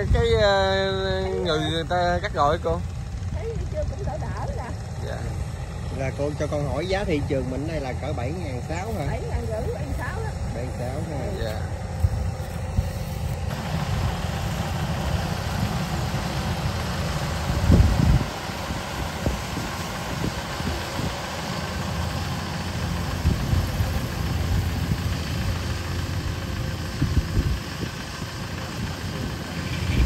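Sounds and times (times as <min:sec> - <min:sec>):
combine harvester diesel engine running: 0:00.0 - 0:30.0.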